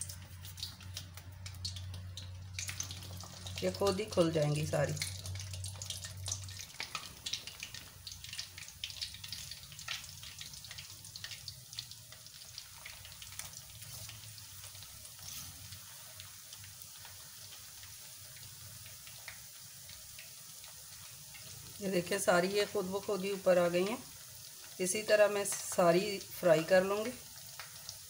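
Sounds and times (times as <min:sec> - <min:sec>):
deep-frying sizzle with crackling pops: 0:00.0 - 0:28.0.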